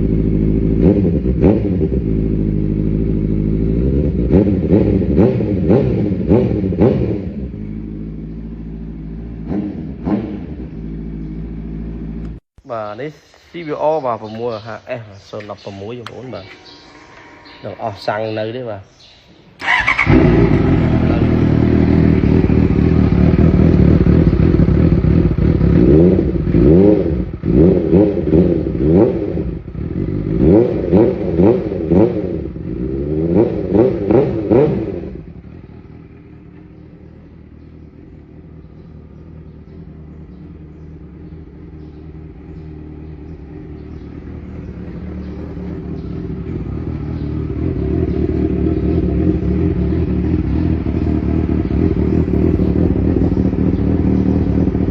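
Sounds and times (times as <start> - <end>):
motorcycle engine revving: 0.0 - 13.1, 13.8 - 54.9.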